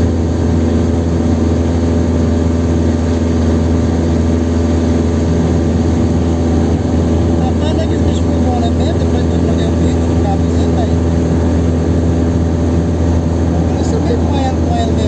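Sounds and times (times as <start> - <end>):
car engine pulling at speed: 0.0 - 15.0
road noise: 0.0 - 15.0.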